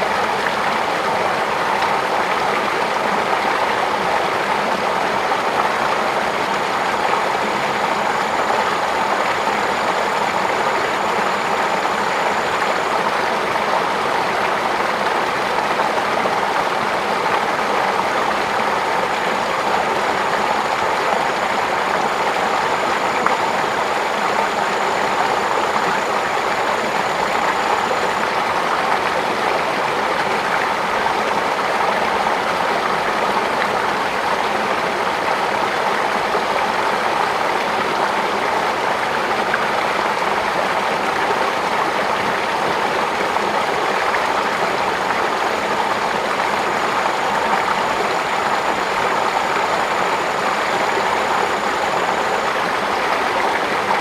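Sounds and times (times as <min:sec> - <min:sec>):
faint high whine: 0:00.0 - 0:54.0
water rushing: 0:00.0 - 0:54.0.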